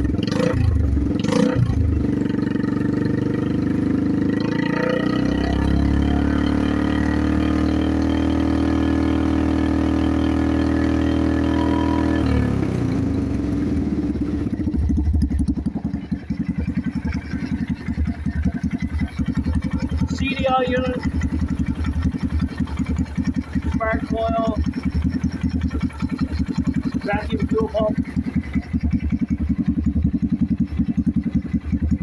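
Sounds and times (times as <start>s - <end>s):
unmuffled engine idling and revving: 0.0s - 32.0s.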